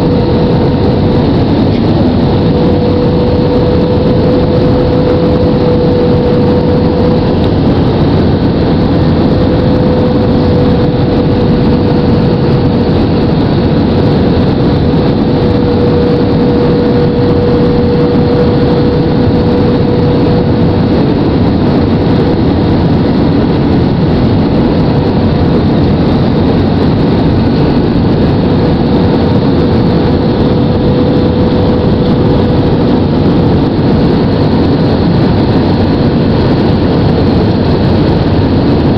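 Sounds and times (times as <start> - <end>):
jet engines rumbling: 0.0 - 38.9
steady engine hum: 0.0 - 38.9.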